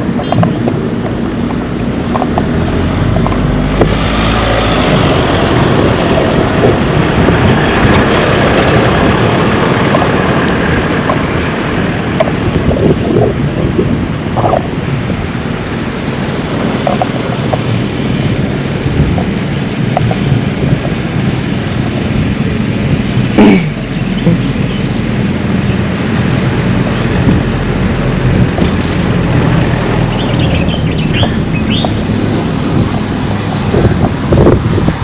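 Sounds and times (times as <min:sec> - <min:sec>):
cars and motorbikes passing: 0:00.0 - 0:35.0
wind on microphone: 0:00.0 - 0:35.0.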